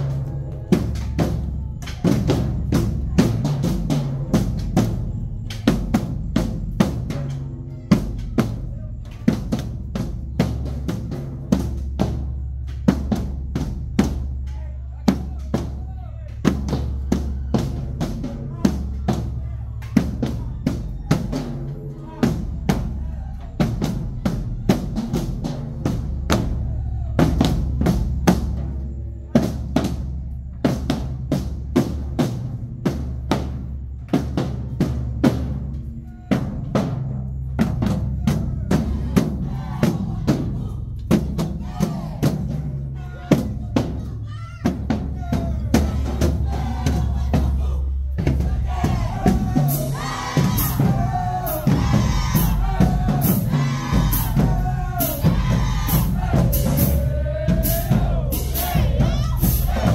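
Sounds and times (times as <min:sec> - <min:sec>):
marching drumline: 0:00.0 - 0:59.9.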